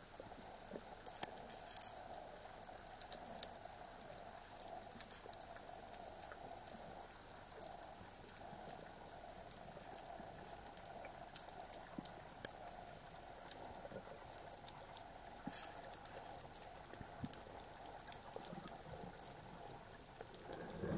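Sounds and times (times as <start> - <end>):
small clicks and crackles: 0.0 - 20.9.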